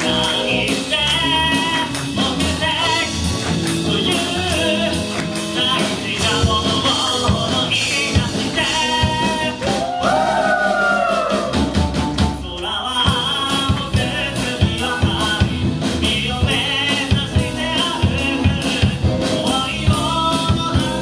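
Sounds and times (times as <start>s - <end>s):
live band playing: 0.0s - 21.0s
person singing: 0.0s - 21.0s.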